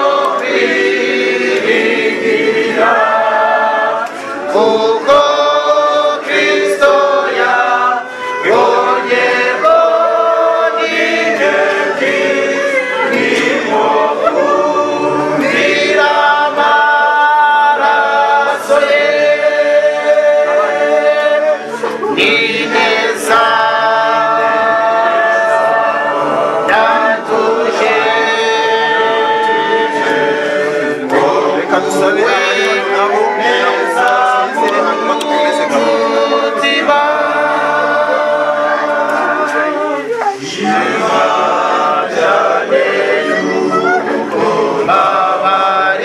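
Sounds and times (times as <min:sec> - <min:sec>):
group singing a hymn: 0:00.0 - 0:46.0.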